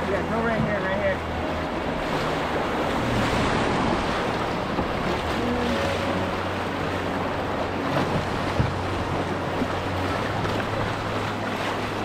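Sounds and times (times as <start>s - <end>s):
river rapids rushing: 0.0s - 12.0s
wind rumbling on microphone: 0.0s - 12.0s.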